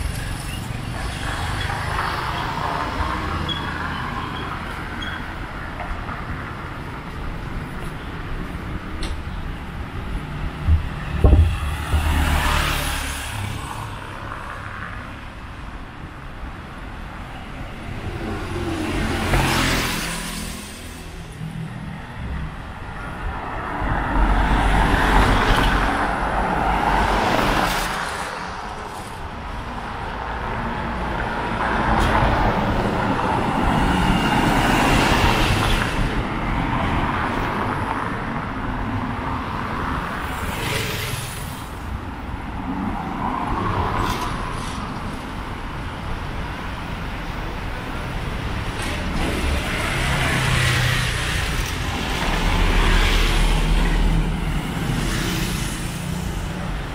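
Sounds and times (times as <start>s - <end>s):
vehicles passing close by: 0.0s - 56.9s.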